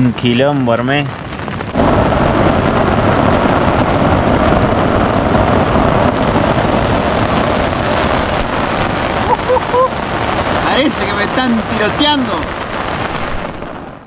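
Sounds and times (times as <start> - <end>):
heavy rain on a tent: 0.0 - 14.0.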